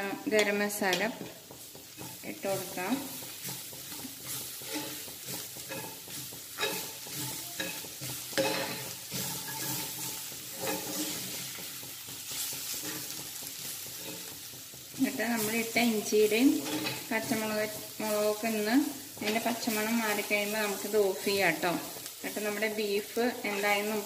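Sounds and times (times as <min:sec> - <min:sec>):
mince sizzling: 0:00.0 - 0:24.0
metal spoon scraping pan: 0:00.2 - 0:24.0.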